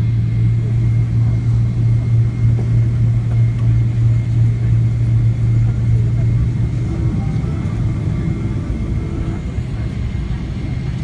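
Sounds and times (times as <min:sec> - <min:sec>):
aircraft engine hum and rumble: 0:00.0 - 0:11.0.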